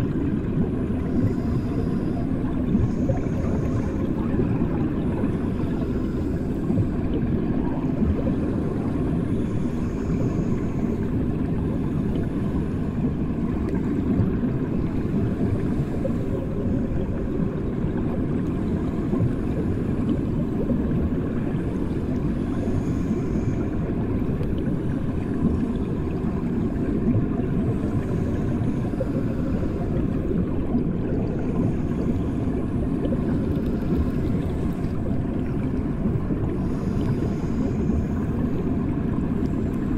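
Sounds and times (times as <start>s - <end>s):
muffled underwater bathwater rumble: 0.0s - 39.9s.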